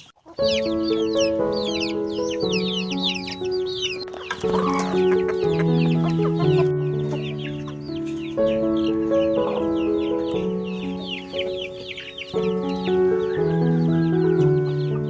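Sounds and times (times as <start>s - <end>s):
chickens peeping: 0.0s - 15.0s
slow background music: 0.4s - 15.0s.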